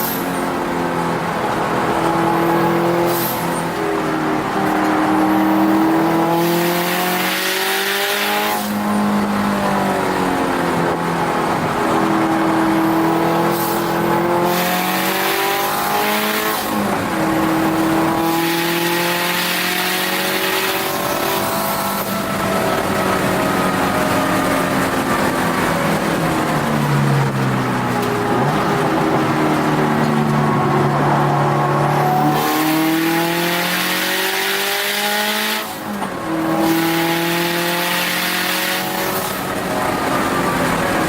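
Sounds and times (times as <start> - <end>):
car engine revving and shifting: 0.0 - 41.0
tyre and wind noise: 0.0 - 41.0.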